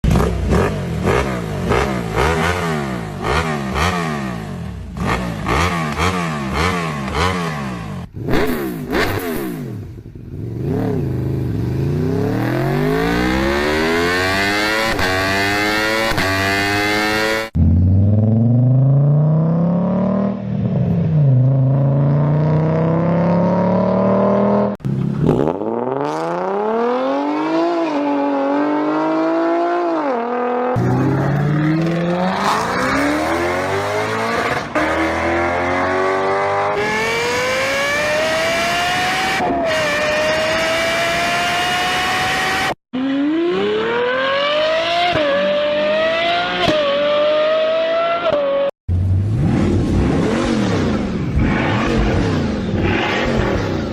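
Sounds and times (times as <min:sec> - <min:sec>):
engines revving hard: 0:00.0 - 0:09.9, 0:10.6 - 0:18.5, 0:22.0 - 0:53.9.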